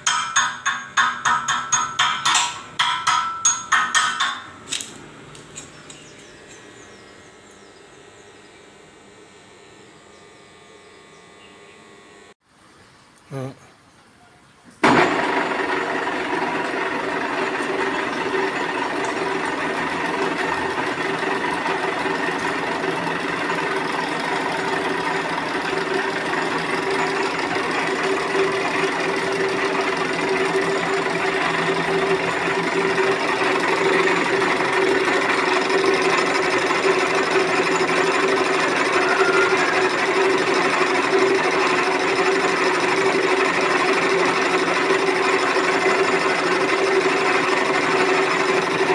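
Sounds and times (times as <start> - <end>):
lathe motor humming: 5.0 - 12.4, 14.9 - 48.9.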